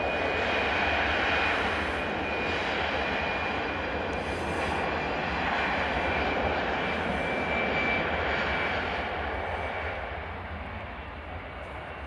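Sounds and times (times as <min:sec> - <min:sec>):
jet engines running loud: 0:00.0 - 0:12.0.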